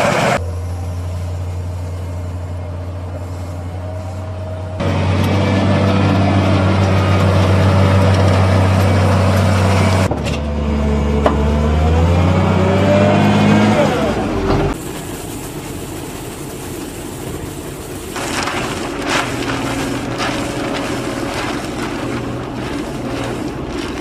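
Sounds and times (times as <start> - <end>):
wheel loader diesel engine: 0.0 - 24.0.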